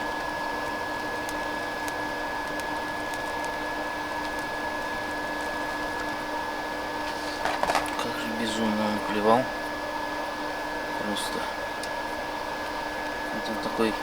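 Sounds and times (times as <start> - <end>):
small fan whining: 0.0 - 14.0.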